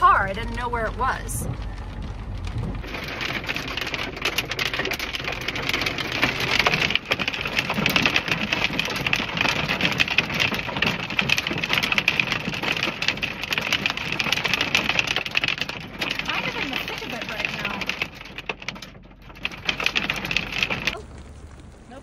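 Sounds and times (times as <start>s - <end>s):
sleet and rain pelting a car: 0.0s - 22.0s.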